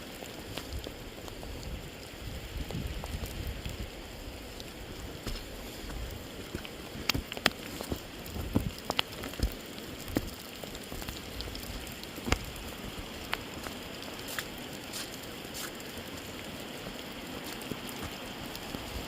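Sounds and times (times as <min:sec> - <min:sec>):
raindrops tapping near microphone: 0:00.0 - 0:19.0
steady rain falling: 0:00.0 - 0:19.0.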